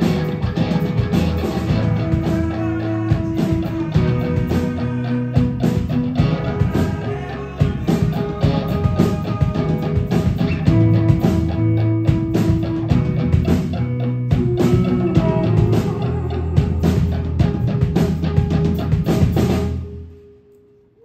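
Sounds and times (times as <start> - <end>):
drums: 0.0 - 20.3
electric guitar: 0.0 - 20.7
keyboard: 0.0 - 21.0.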